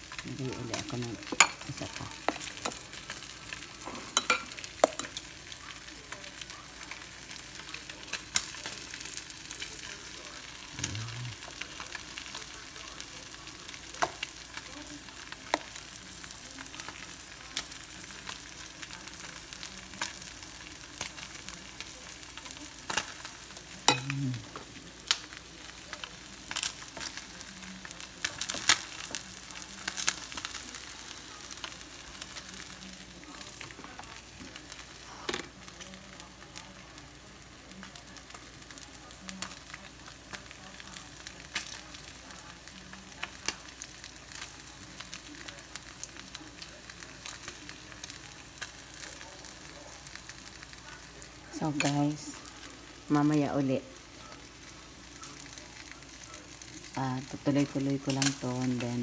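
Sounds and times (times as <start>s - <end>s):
meat sizzling in a pan: 0.0s - 59.0s.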